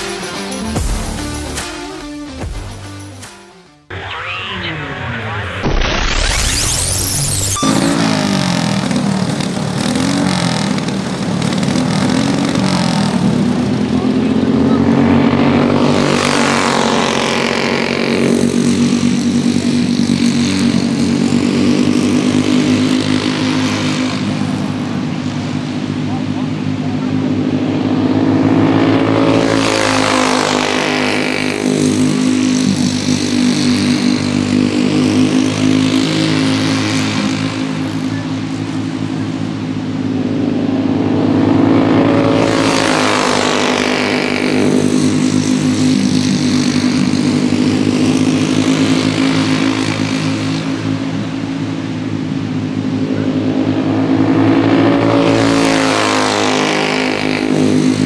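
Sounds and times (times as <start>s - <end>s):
kart engines racing: 0.0s - 2.0s, 3.8s - 58.0s.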